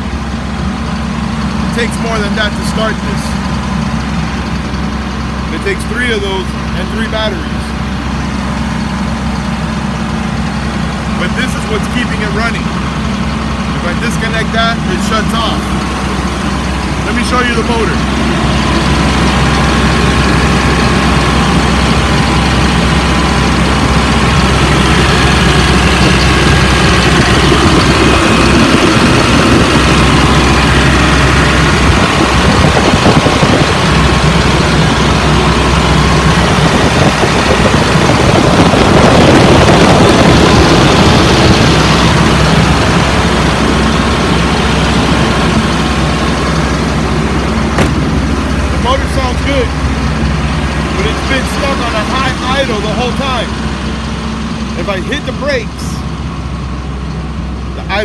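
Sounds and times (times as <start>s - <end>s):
bus engine high idle: 0.0s - 58.0s.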